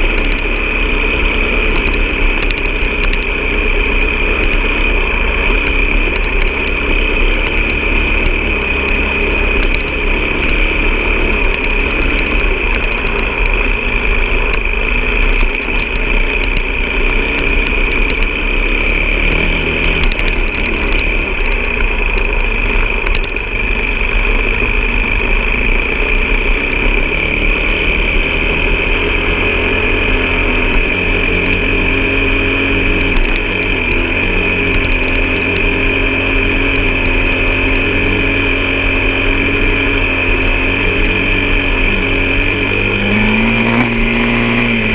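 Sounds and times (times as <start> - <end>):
high whine: 0.0 - 44.9
vehicle engine running: 0.0 - 44.9.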